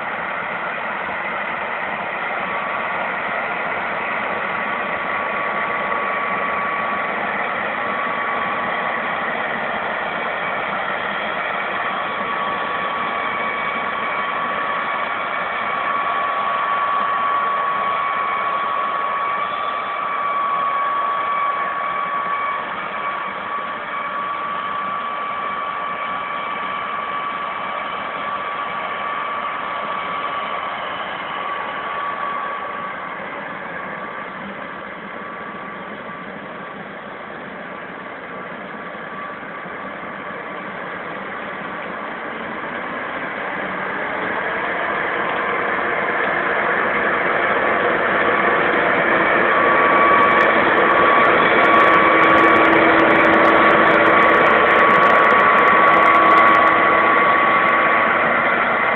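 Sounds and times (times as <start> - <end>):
high machine whine: 0.0 - 58.9
steady machine drone: 0.0 - 58.9.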